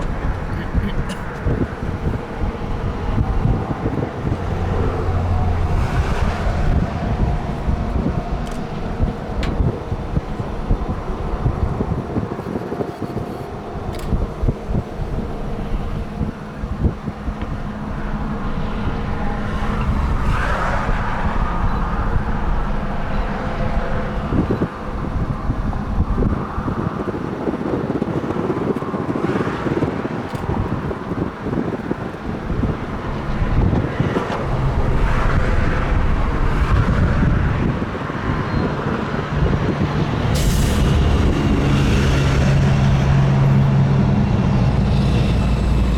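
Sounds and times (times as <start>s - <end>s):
engine humming: 0.0s - 28.2s, 30.6s - 45.9s
rushing noise: 0.0s - 29.8s, 32.4s - 45.9s
diesel locomotive rumbling: 0.0s - 45.9s
wind buffeting microphone: 0.0s - 45.9s.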